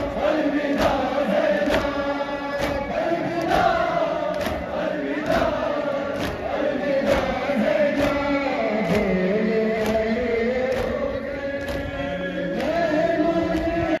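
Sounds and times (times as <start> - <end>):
crowd chanting in unison: 0.0 - 14.0
rhythmic chest-beating: 0.0 - 14.0.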